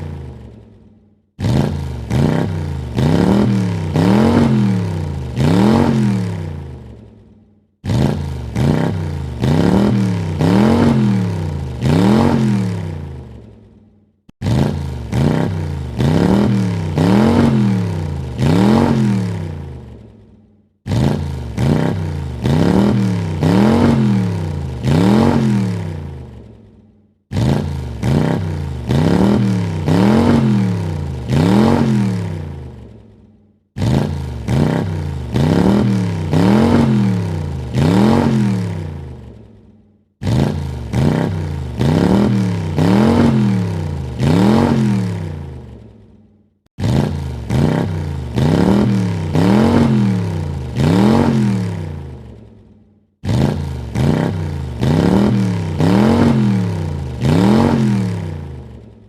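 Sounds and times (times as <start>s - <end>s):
car engine revving: 1.4s - 7.1s, 7.8s - 13.6s, 14.3s - 20.2s, 20.8s - 26.6s, 27.3s - 33.0s, 33.8s - 39.6s, 40.2s - 45.9s, 46.8s - 52.4s, 53.2s - 58.8s.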